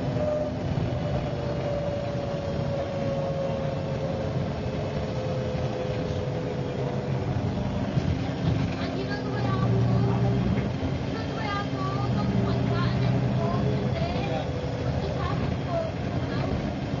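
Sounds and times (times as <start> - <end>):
bus engine drone with whine: 0.0 - 17.0.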